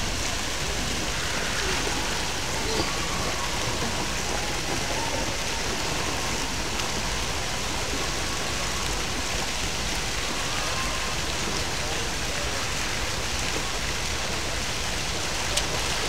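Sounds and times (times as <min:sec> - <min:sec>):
fountain water splashing into pool: 0:00.0 - 0:16.0.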